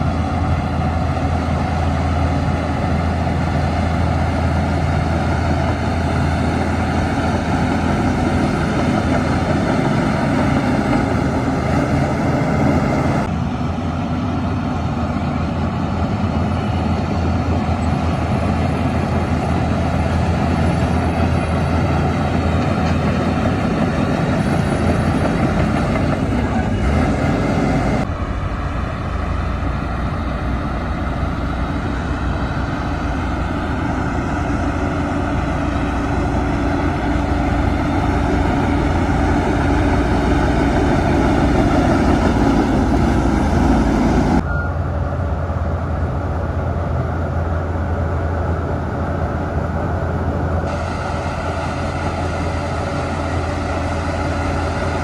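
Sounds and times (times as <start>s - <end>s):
heavy diesel machinery droning: 0.0s - 55.0s.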